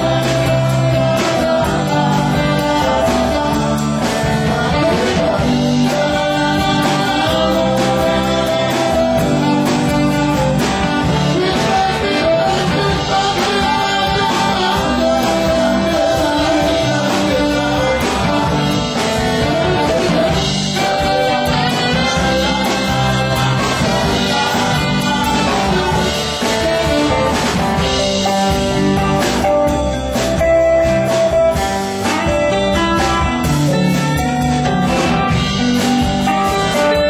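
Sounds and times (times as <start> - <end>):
electric guitars: 0.0 - 37.0
keyboard: 0.0 - 37.0
person singing: 0.0 - 37.0.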